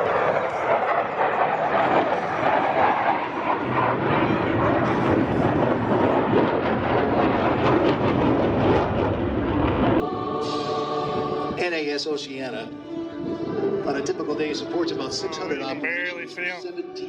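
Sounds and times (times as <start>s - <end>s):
fighter jets roaring past: 0.0s - 16.6s.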